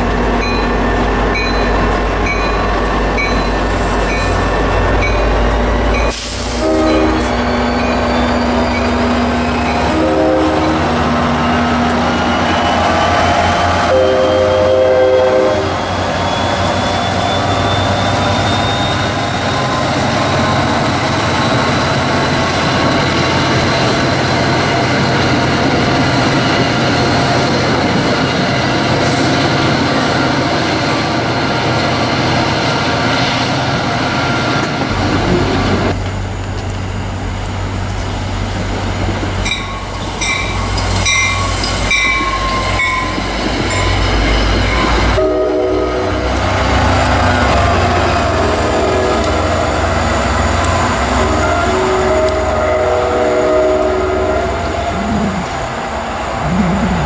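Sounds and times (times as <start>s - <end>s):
second train passing: 0.0s - 57.0s
train wheels rumbling on rails: 0.0s - 57.0s.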